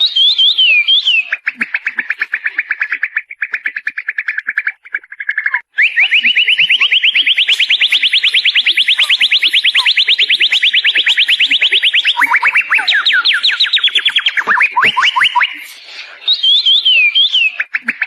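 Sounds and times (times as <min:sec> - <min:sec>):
songbird trilling: 0:00.0 - 0:02.8, 0:04.0 - 0:18.0.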